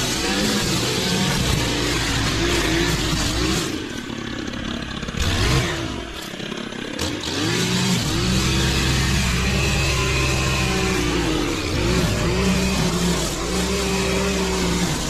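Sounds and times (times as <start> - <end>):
small gasoline engine revving: 0.0 - 15.0.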